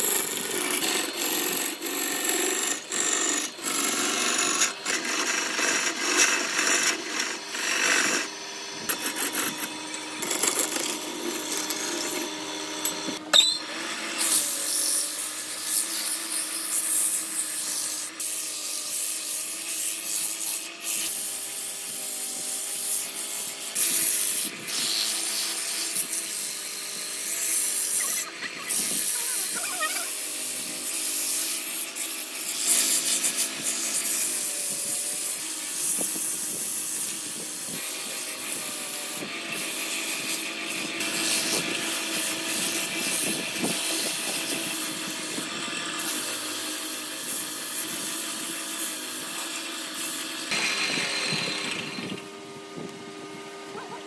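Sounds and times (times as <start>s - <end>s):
sandpaper rubbing spinning wood: 0.0s - 13.2s, 13.9s - 52.3s
turning tool scraping wood: 0.0s - 52.9s
wood lathe humming: 0.0s - 54.0s.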